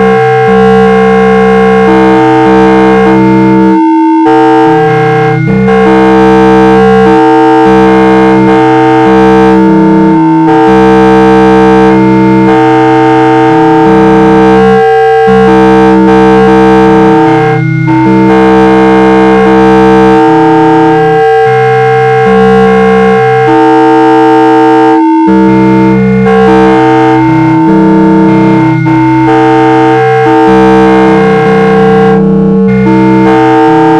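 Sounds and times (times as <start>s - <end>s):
sustained electronic chords: 0.0s - 33.9s.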